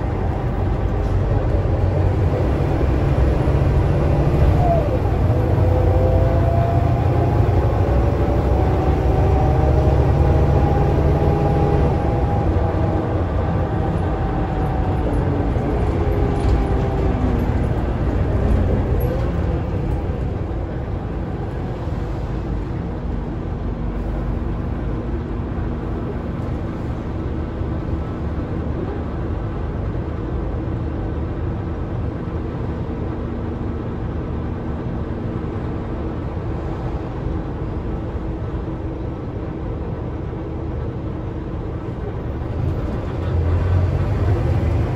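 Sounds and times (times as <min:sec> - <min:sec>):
bus diesel engine: 0:00.0 - 0:44.9
road noise: 0:00.0 - 0:44.9.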